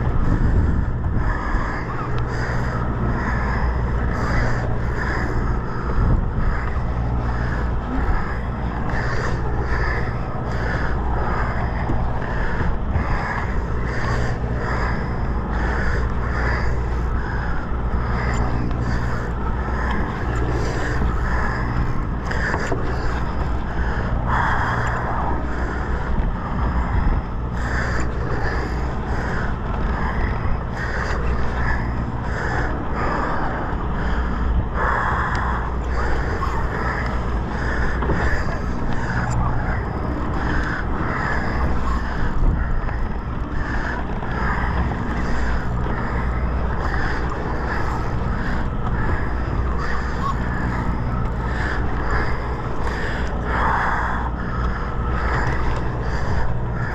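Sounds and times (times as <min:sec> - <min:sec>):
boat engine humming: 0:00.0 - 0:56.9.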